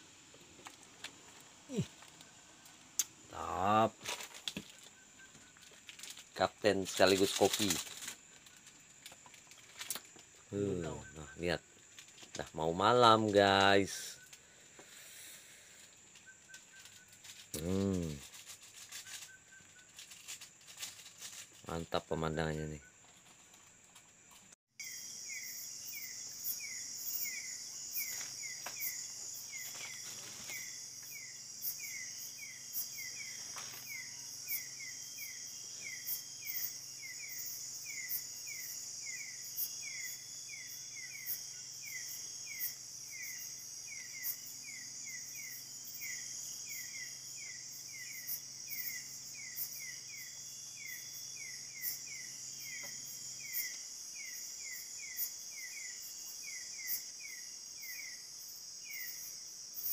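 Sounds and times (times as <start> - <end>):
insect chirping: 0.0 - 59.9
insects buzzing: 0.0 - 59.9.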